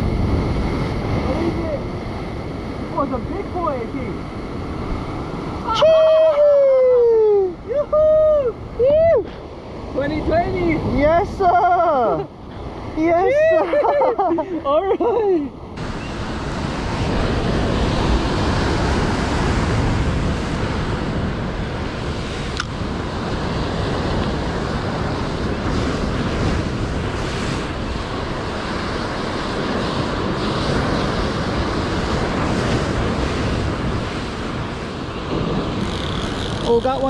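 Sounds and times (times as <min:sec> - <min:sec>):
surf rushing: 0:00.0 - 0:37.0
wind buffeting microphone: 0:00.0 - 0:37.0.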